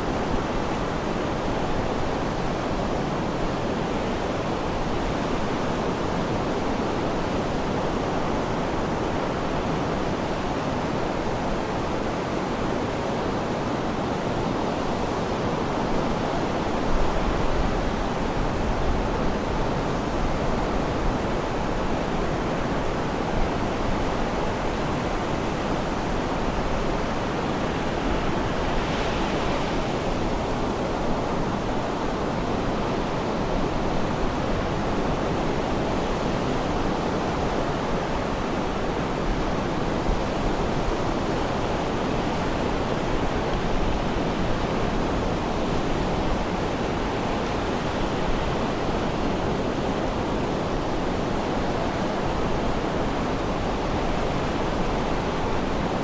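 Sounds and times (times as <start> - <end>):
sea surf washing on shore: 0.1 - 56.0.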